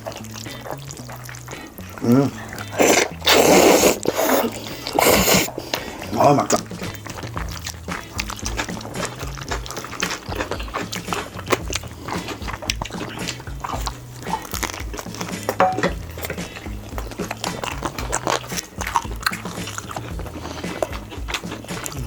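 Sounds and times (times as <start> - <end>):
background music with bass line: 0.0 - 22.0
chewing clicks: 0.0 - 22.0.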